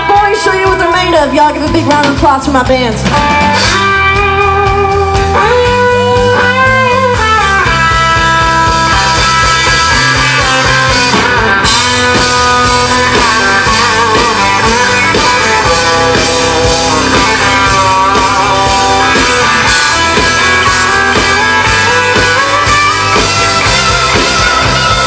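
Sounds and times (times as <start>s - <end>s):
lead electric guitar bending notes: 0.0s - 25.0s
live country-rock band: 0.0s - 25.0s.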